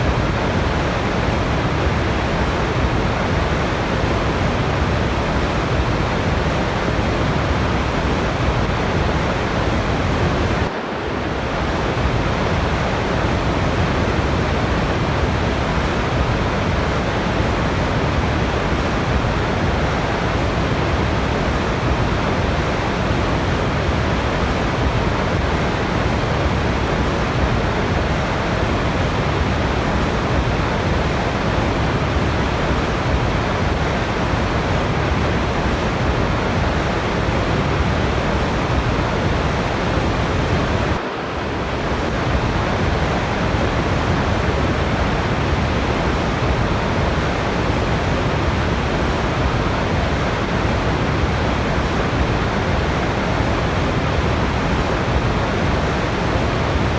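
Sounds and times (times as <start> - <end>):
falling water rushing: 0.0 - 56.9.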